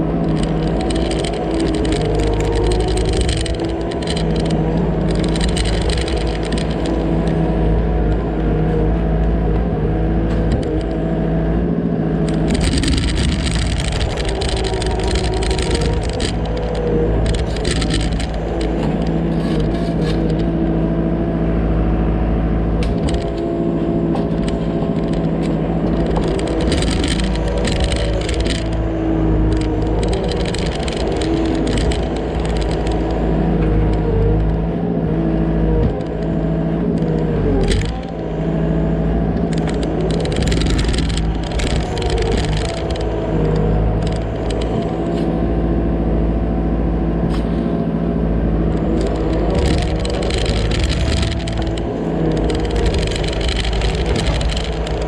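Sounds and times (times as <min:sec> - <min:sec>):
digging machine engine running: 0:00.0 - 0:55.0.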